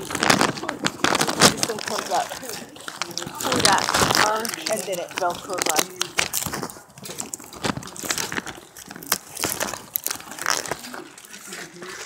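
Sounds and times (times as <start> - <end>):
plastic sheet crinkling: 0.0 - 12.0
sharp clicks and scrapes: 0.0 - 12.0.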